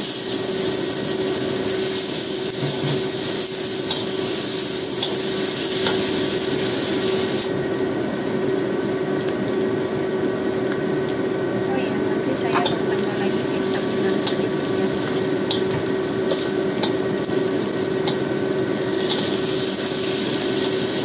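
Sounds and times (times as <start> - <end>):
food sizzling in hot oil: 0.0 - 21.0
steady hum: 0.0 - 21.0.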